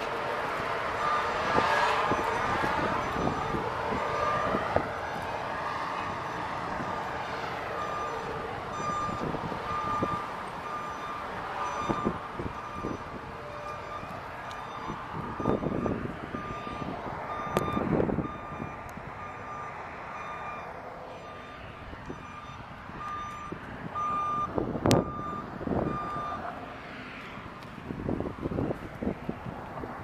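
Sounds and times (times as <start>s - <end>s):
reversing alarm beeping: 0.0s - 26.5s.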